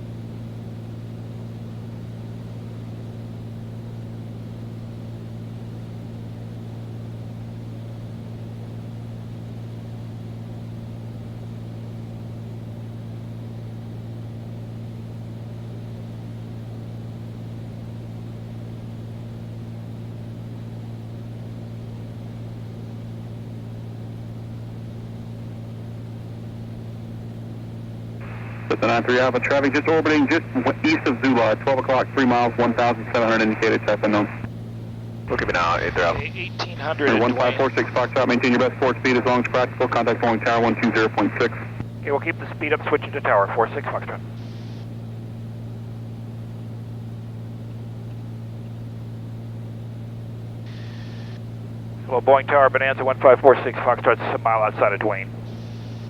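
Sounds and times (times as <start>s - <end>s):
airplane engine and propeller drone: 0.0s - 56.0s.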